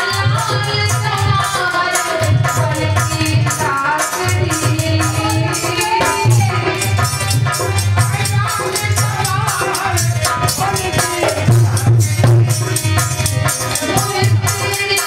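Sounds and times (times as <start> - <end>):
drum beat: 0.0 - 15.0
shaker percussion: 0.0 - 15.0.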